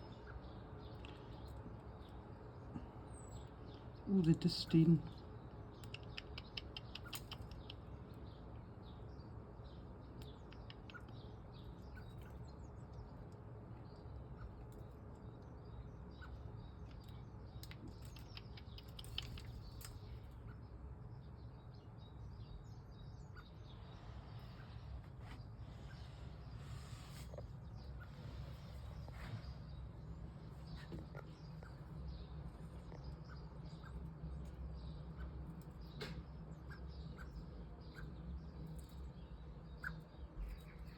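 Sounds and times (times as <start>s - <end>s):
low background rumble: 0.0s - 40.9s
small birds chirping: 0.0s - 40.9s.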